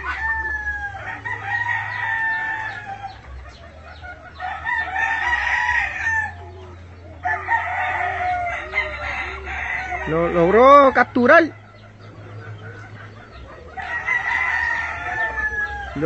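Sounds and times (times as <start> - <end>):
chickens calling: 0.0 - 16.0
chickens clucking: 0.0 - 16.0.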